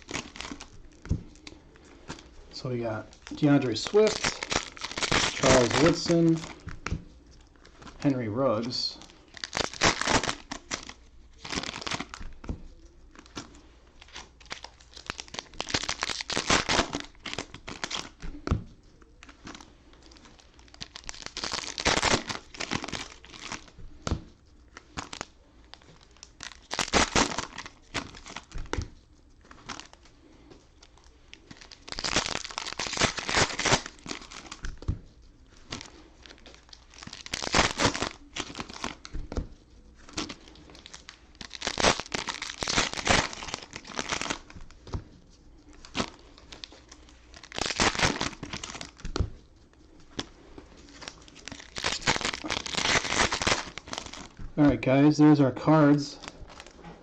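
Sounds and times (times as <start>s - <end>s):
cellophane wrappers crinkling: 0.0s - 57.0s
rustling of wrappers and cards: 0.0s - 57.0s.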